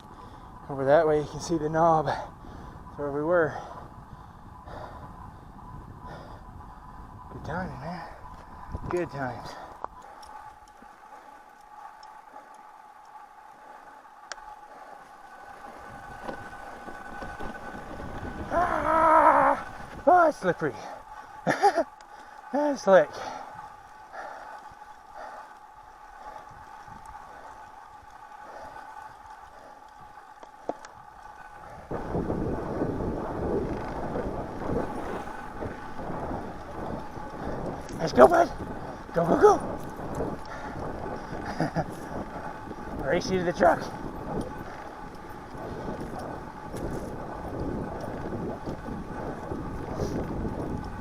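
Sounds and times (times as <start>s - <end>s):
bike tyres rolling on dirt: 0.0s - 51.0s
faint steady whine: 0.0s - 51.0s
wind rumbling on microphone: 0.0s - 51.0s.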